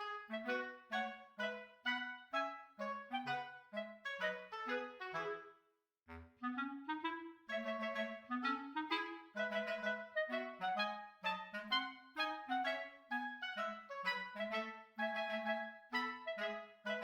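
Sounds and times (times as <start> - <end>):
lively woodwind melody: 0.0 - 17.0.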